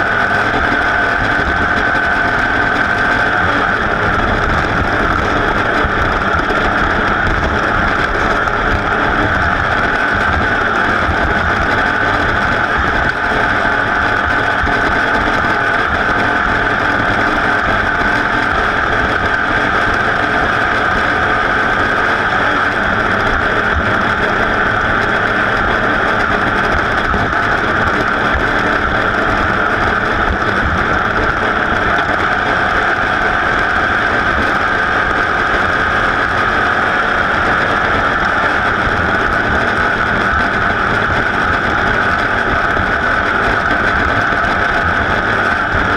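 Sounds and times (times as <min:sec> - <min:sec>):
racing engine at high revs: 0:00.0 - 0:45.9
wind noise: 0:00.0 - 0:45.9.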